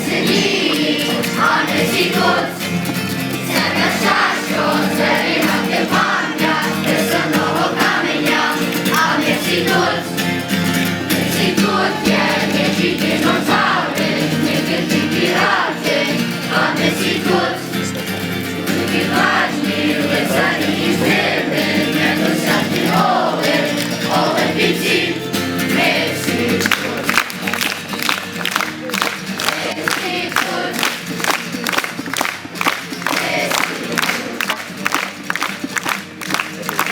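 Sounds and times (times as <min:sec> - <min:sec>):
group of people singing: 0:00.0 - 0:27.2, 0:29.4 - 0:31.1, 0:32.9 - 0:34.6
musical accompaniment: 0:00.0 - 0:36.9.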